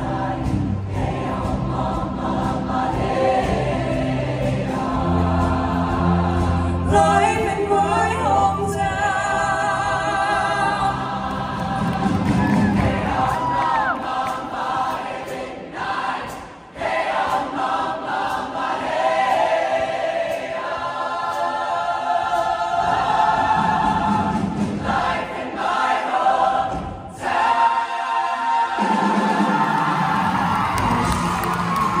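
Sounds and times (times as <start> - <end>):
choir singing in harmony: 0.0 - 32.0.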